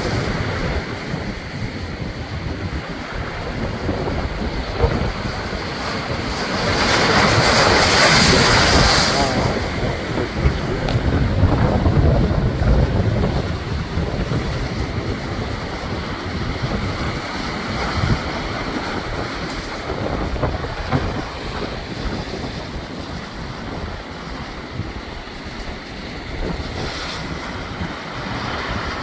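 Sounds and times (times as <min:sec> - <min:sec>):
surf breaking on rocks: 0:00.0 - 0:29.0
wind buffeting microphone: 0:00.0 - 0:29.0.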